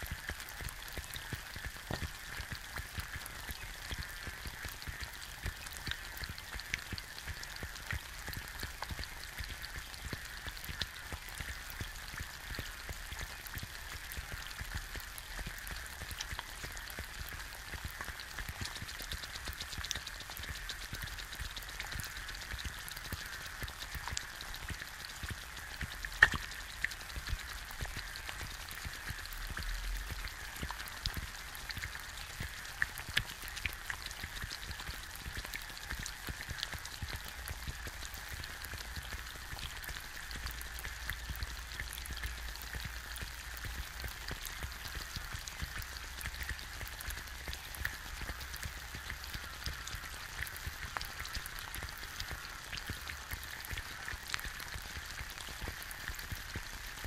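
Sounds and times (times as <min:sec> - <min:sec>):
egg sizzling in a pan: 0:00.0 - 0:57.0.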